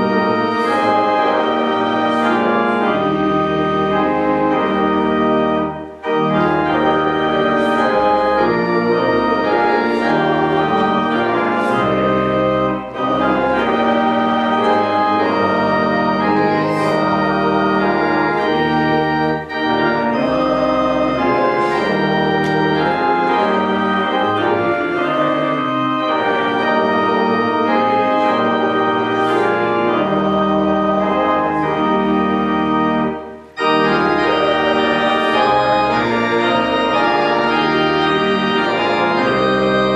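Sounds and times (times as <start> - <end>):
church organ playing a hymn: 0.0 - 39.9.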